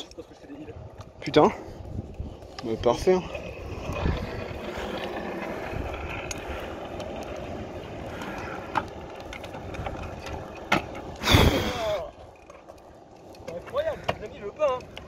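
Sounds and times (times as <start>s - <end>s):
scooter wheels rolling on asphalt: 0.0s - 15.0s.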